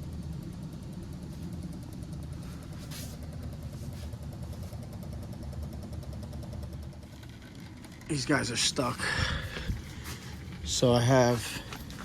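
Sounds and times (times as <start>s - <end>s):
air conditioner unit humming: 0.0s - 12.0s.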